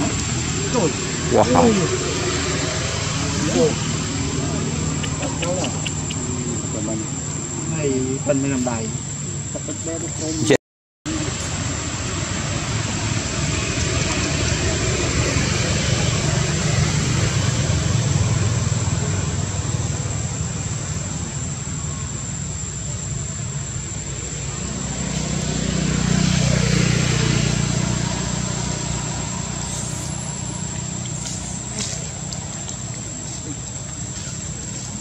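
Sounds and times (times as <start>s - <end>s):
vehicle engine rumbling past: 0.0s - 35.0s.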